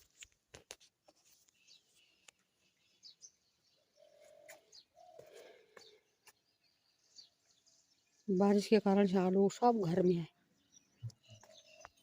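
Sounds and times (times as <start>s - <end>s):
faint birds chirping: 0.0s - 12.0s
low held bird calls: 1.3s - 9.0s, 9.8s - 12.0s.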